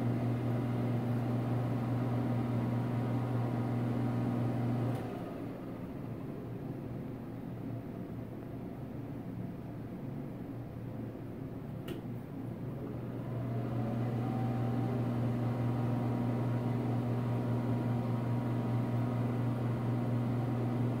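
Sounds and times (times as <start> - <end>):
exhaust fan humming: 0.0 - 21.0.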